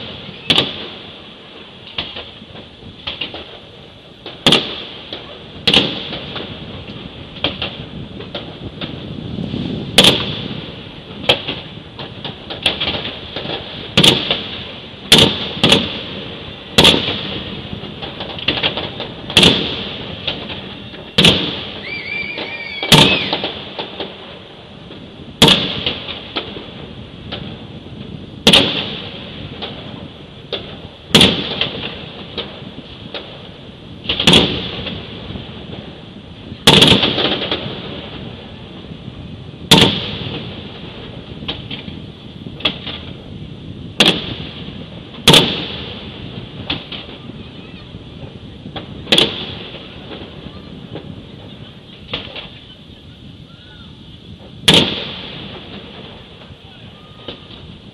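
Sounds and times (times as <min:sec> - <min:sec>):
firework shells bursting: 0:00.0 - 0:53.4, 0:54.0 - 0:57.9.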